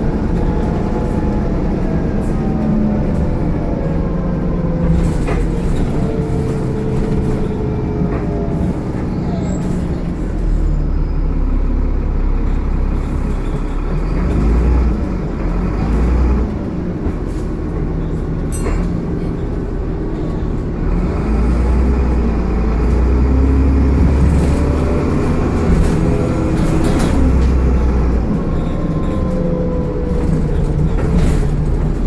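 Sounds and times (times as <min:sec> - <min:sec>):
bus engine with turbo whine: 0:00.0 - 0:32.0.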